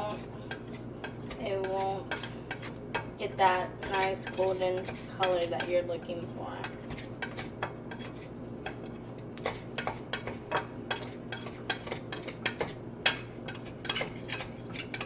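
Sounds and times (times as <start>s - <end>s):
utensil scraping rice in pan: 0.0s - 15.0s.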